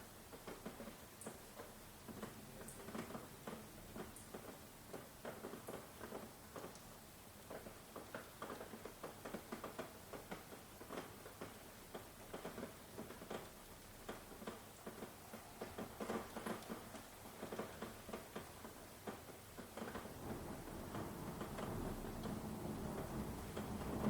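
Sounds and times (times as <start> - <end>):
raindrops tapping and dripping: 0.0 - 24.0
steady rain hiss: 0.0 - 24.0.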